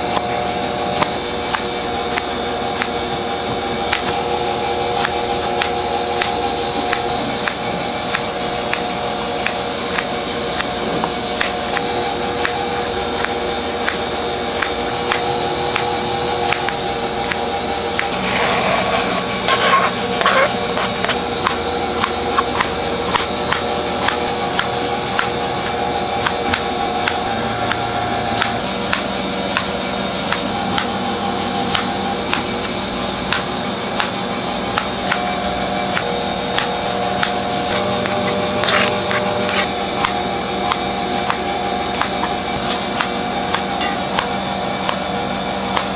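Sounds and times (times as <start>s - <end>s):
machine hum: 0.0s - 45.9s.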